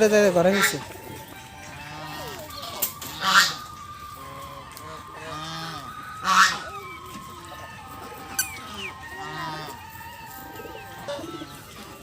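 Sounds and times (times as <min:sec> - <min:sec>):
goose honking: 0:00.4 - 0:00.9, 0:01.6 - 0:12.0.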